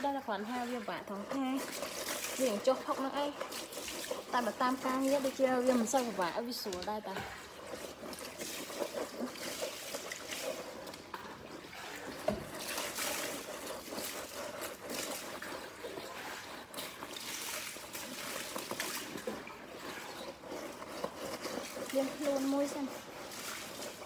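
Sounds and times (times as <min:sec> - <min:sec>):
clicks of objects handled in water: 0:00.0 - 0:24.0
water trickling and splashing: 0:00.0 - 0:24.0.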